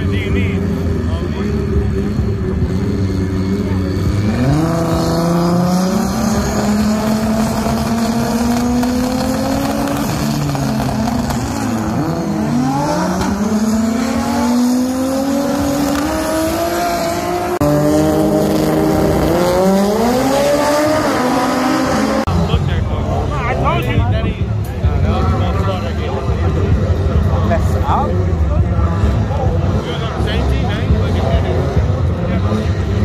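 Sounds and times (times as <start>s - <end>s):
race car engines accelerating: 0.0s - 33.0s.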